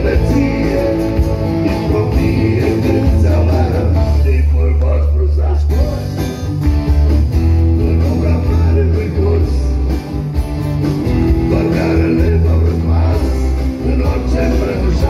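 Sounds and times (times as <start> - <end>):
deep bass line: 0.0 - 15.0
electric and acoustic guitars: 0.0 - 15.0.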